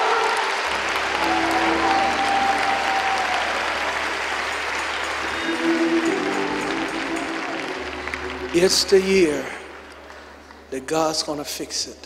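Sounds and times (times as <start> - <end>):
congregation applauding: 0.0 - 11.9
instrumental music sustained notes: 0.7 - 10.7.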